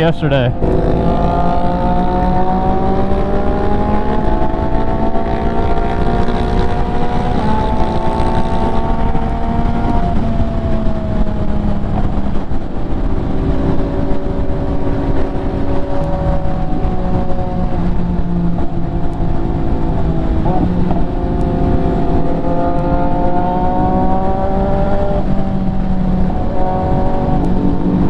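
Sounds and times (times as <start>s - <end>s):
low wind rush: 0.0s - 28.0s
motorcycle engine running: 0.0s - 28.0s.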